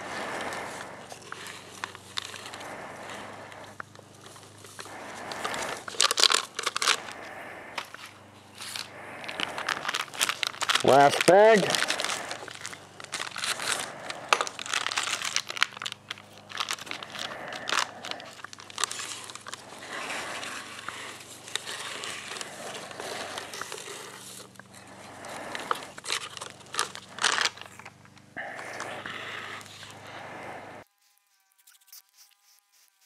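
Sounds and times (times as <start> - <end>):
bag crinkling and rustling: 0.0 - 30.1
faint low hum: 0.0 - 33.0.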